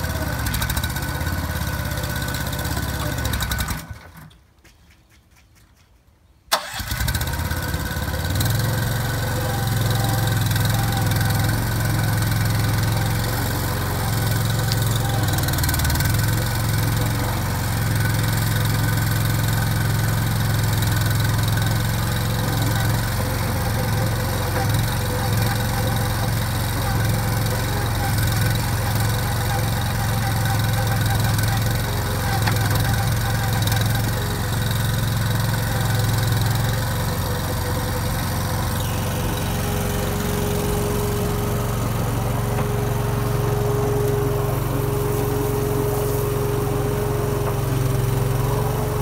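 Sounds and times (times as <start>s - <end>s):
concrete mixer engine running: 0.0s - 4.2s, 6.6s - 49.0s.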